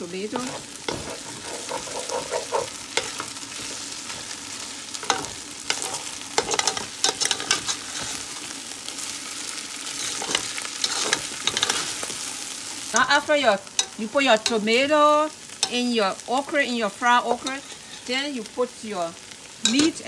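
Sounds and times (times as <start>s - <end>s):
okra sizzling in oil: 0.0s - 20.0s.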